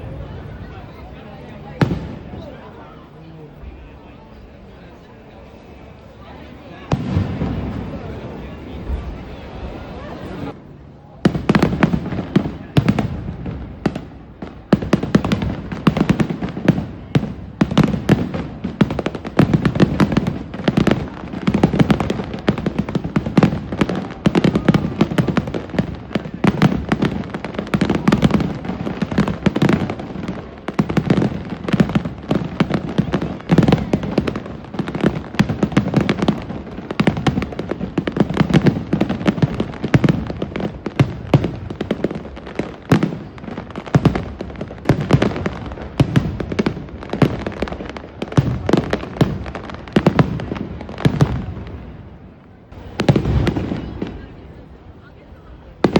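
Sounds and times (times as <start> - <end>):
fireworks booming and crackling: 0.0 - 55.9.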